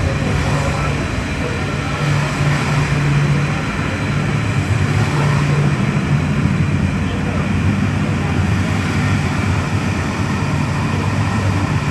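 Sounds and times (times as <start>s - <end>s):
train running with low hum: 0.0s - 11.9s.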